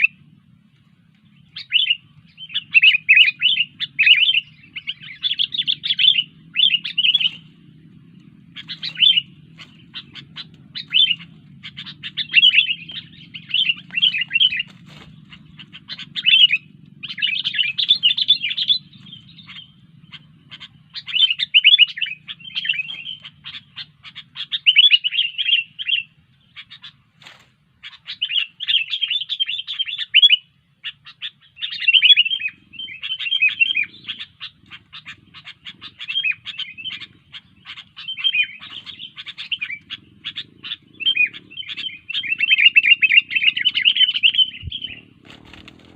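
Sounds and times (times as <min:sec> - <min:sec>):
faint low hum: 0:00.0 - 0:45.9
bird chattering chirps: 0:01.3 - 0:27.2, 0:27.8 - 0:45.9.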